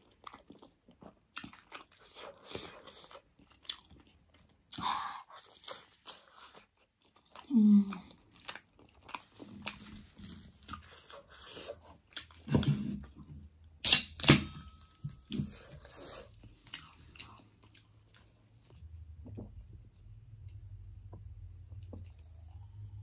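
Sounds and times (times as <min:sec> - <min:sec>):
person chewing wetly: 0:00.0 - 0:14.0, 0:15.1 - 0:20.6.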